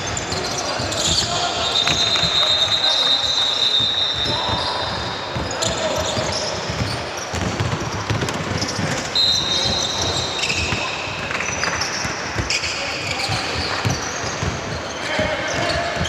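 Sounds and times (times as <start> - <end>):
basketball bouncing on court: 0.0 - 16.0
sneakers squeaking on floor: 0.0 - 16.0.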